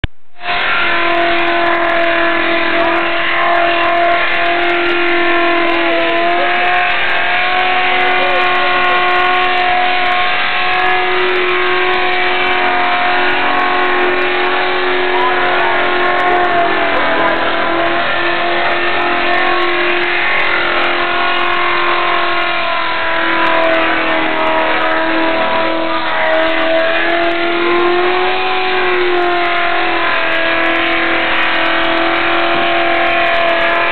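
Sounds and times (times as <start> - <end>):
car engine at high revs: 0.0 - 33.9
tyres spinning: 0.5 - 33.9.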